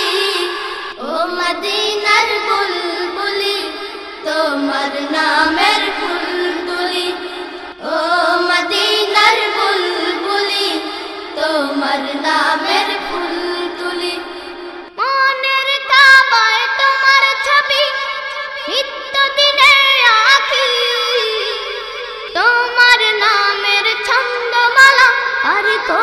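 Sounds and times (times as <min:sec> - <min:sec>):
high voice singing: 0:00.0 - 0:26.0.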